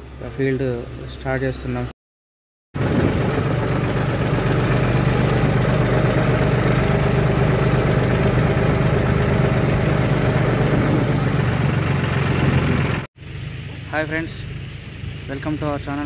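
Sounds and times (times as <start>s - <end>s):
tractor diesel engine running: 2.8s - 16.0s.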